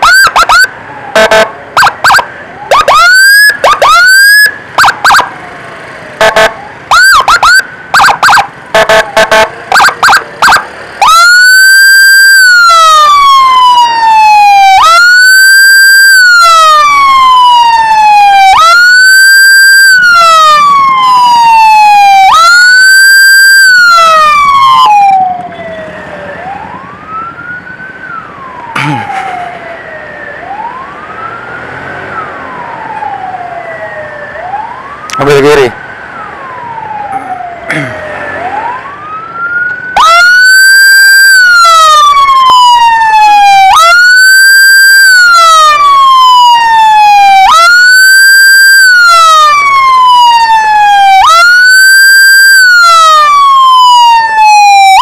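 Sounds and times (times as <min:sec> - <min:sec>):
electronic siren chirping and wailing: 0:00.0 - 0:05.3, 0:06.2 - 0:37.6, 0:38.4 - 0:55.0
fainter siren rising and falling: 0:00.0 - 0:05.3, 0:06.2 - 0:55.0.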